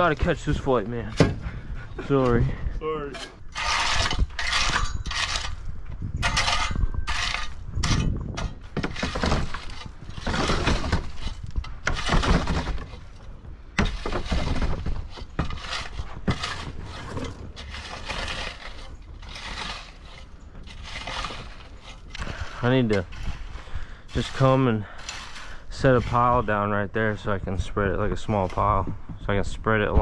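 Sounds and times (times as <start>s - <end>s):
asphalt crunching and scraping: 0.0s - 30.0s.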